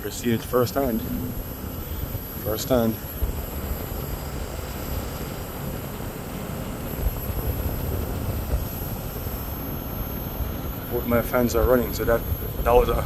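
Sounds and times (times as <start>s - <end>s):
air conditioner outdoor unit running: 0.0s - 13.0s.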